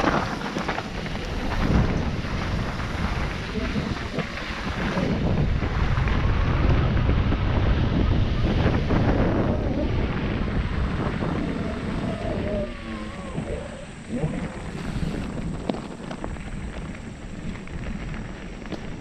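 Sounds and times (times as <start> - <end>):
bike knocking and rattling: 0.0 - 11.8, 14.4 - 19.0
low rumble of bike riding: 0.0 - 19.0
wind buffeting microphone: 0.0 - 19.0.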